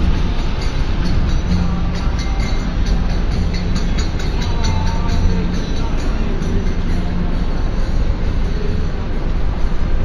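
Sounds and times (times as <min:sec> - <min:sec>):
background music: 0:00.0 - 0:10.0
traffic rumble on wet roads: 0:00.0 - 0:10.0.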